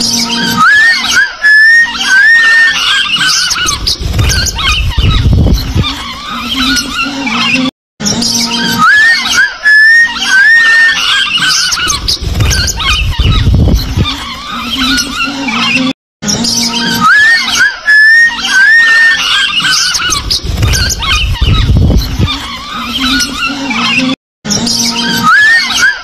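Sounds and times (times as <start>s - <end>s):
parrots chattering and squealing: 0.0s - 15.9s, 16.5s - 24.1s, 24.7s - 26.0s
music: 0.0s - 26.0s.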